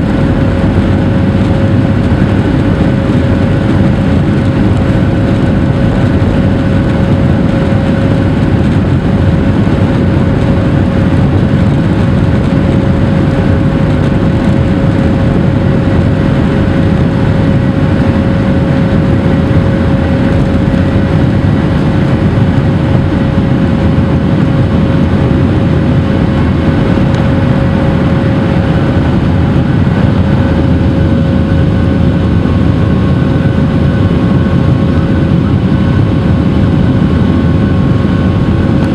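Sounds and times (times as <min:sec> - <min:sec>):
jet engine rumble: 0:00.0 - 0:38.9
jet engine whine: 0:00.0 - 0:38.9.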